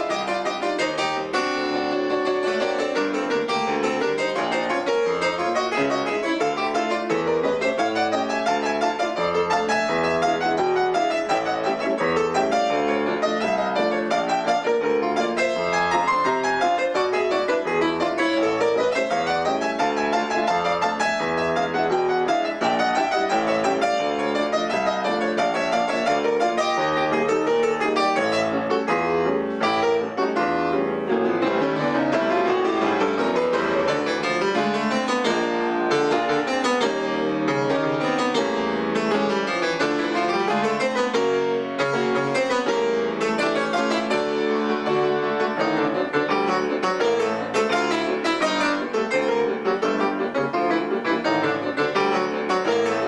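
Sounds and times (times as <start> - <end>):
instrumental duet: 0.0 - 53.0.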